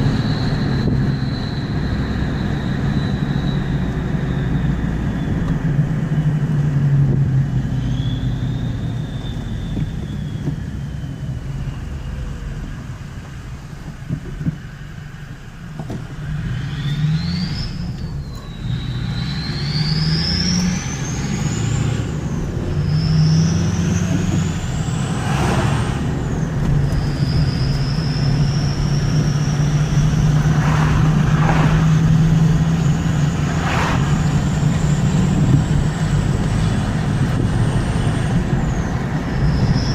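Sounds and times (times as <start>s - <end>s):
turbocharger whistling: 0.0s - 13.2s, 16.2s - 39.9s
engine low drone: 0.0s - 39.9s.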